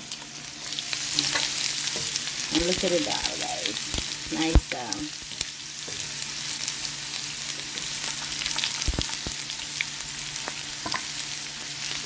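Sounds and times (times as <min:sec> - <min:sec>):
sizzling hiss: 0:00.0 - 0:12.0.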